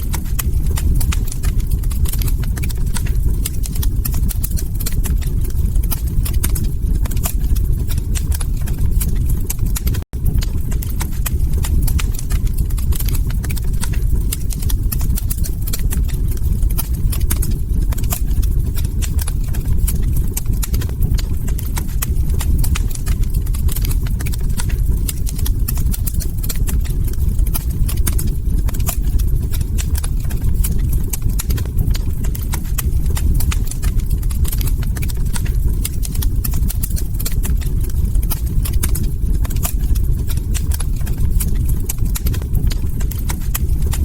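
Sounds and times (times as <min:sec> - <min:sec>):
log fire crackling: 0:00.0 - 0:44.0.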